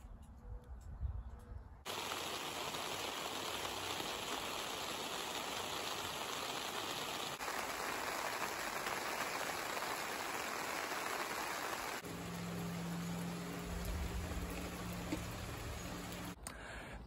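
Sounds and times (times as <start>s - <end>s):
steady rain falling: 1.9s - 16.4s.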